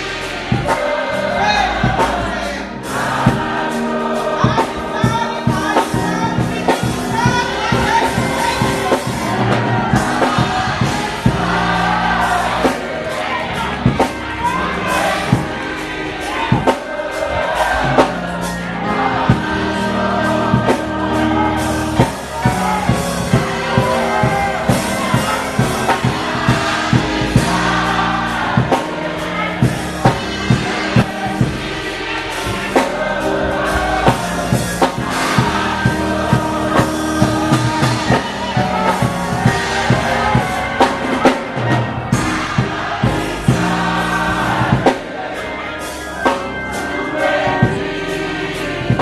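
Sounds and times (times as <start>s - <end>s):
band playing: 0.0s - 49.0s
choir singing gospel: 0.0s - 49.0s.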